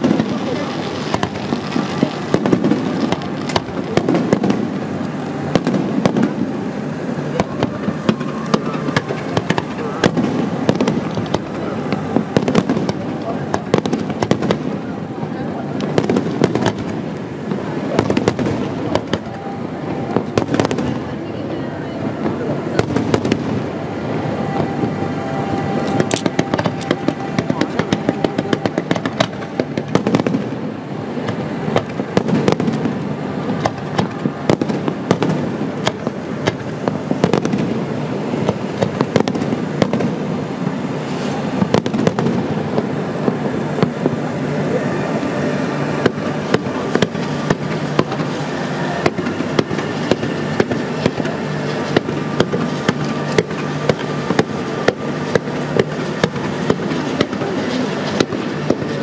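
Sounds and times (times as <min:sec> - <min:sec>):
firework bangs: 0:00.0 - 0:59.0
fireworks crackling: 0:00.0 - 0:59.0.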